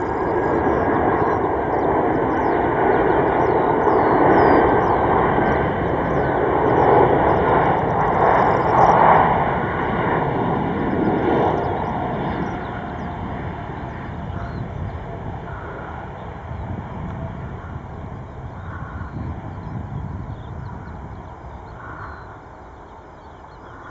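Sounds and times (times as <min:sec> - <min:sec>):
jet aircraft roar flying past: 0:00.0 - 0:23.9.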